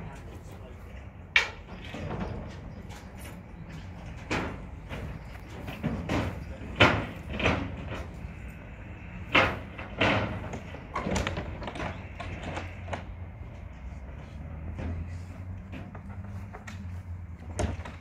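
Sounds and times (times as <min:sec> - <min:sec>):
metallic bangs and clanks: 0:01.3 - 0:18.0.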